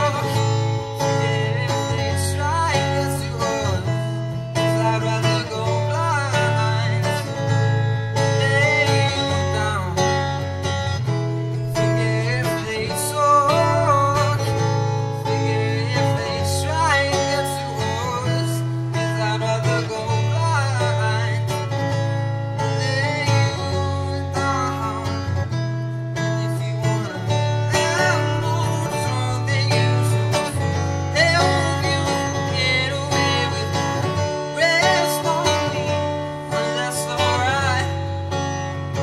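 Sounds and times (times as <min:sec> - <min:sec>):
acoustic guitar: 0:00.0 - 0:39.0
man singing: 0:00.0 - 0:39.0.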